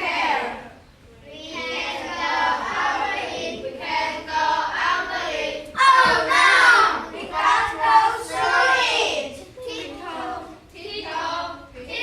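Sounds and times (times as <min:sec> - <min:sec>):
children chanting in unison: 0:00.0 - 0:12.0.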